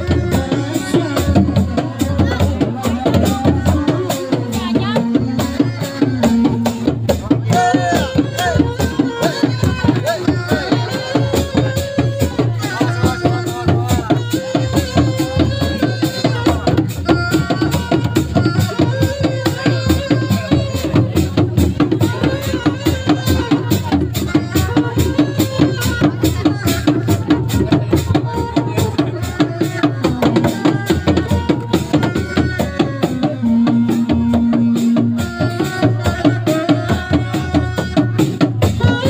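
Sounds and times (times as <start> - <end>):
hand drums beaten fast: 0.0 - 39.0
held melody line: 0.0 - 39.0.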